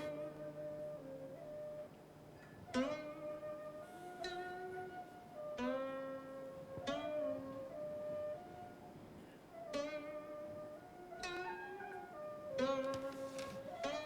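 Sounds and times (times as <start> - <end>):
plucked string instrument: 0.0 - 8.8, 9.5 - 14.0.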